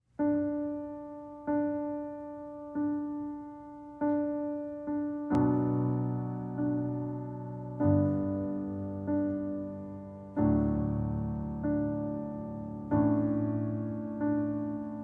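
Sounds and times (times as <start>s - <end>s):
solo piano notes: 0.1s - 15.0s
piano chord with low notes: 0.2s - 15.0s.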